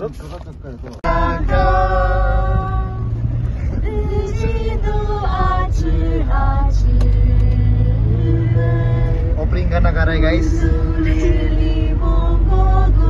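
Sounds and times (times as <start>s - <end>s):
car engine rumble: 0.0s - 13.0s
road noise: 0.0s - 13.0s
voices singing together: 1.0s - 13.0s.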